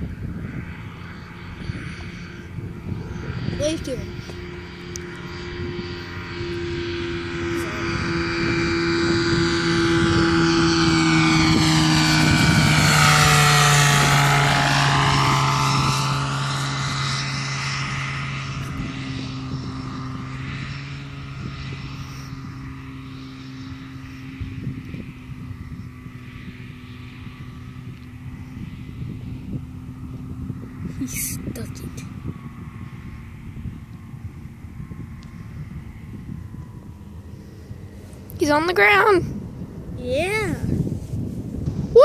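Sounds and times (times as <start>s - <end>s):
ultralight aircraft engine droning: 0.0s - 42.0s.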